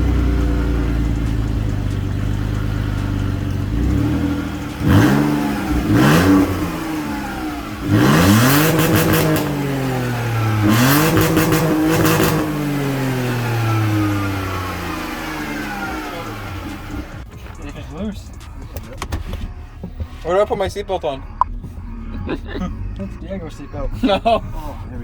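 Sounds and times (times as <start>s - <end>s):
car engine revving: 0.0s - 25.0s
exhaust crackle: 0.0s - 25.0s.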